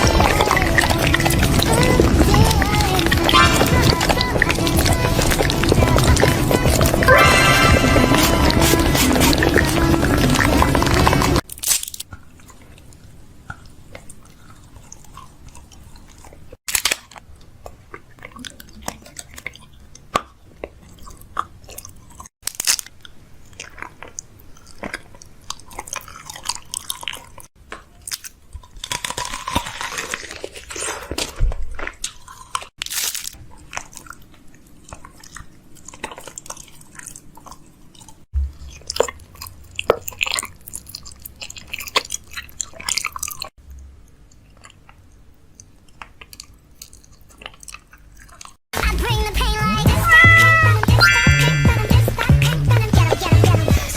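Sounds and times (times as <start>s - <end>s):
crunchy chewing and biting: 0.0s - 48.6s.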